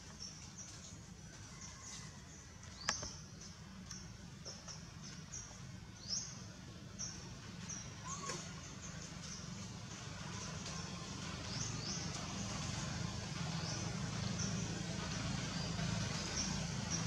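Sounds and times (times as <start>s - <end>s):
low outdoor hum: 0.0s - 17.0s
small birds chirping: 0.0s - 17.0s.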